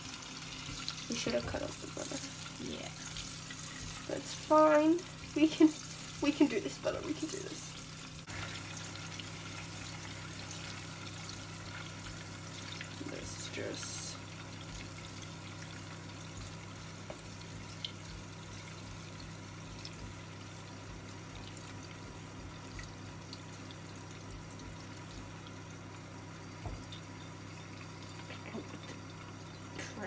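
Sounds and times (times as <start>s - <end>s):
butter hissing in a saucepan: 0.0s - 26.7s
gas hob hum: 0.0s - 30.0s.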